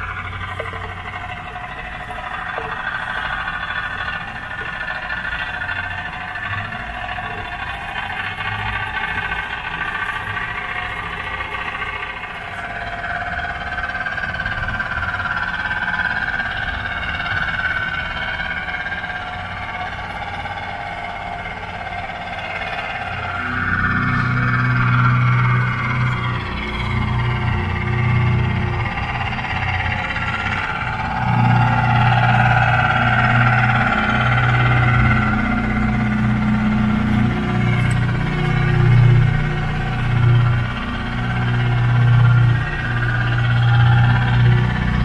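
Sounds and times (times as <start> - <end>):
toy steam engine whirring: 0.0 - 45.0.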